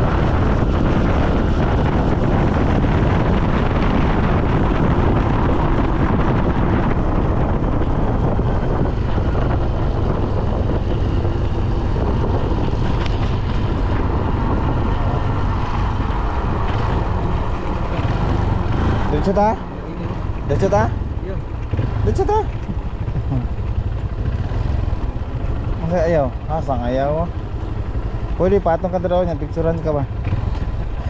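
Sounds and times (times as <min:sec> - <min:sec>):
low vehicle rumble: 0:00.0 - 0:31.0
wind buffeting microphone: 0:00.0 - 0:31.0.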